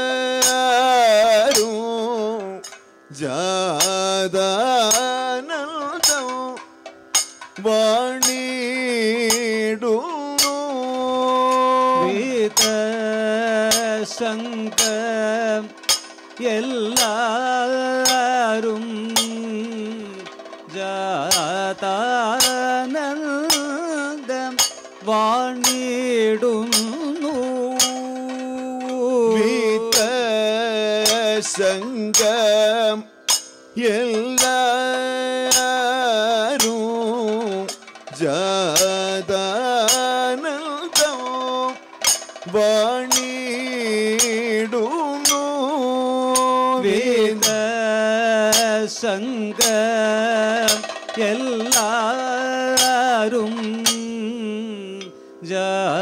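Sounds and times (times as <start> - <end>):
hand-held gong and cymbals striking: 0.0 - 55.3
man singing ornamented melody: 0.0 - 56.0.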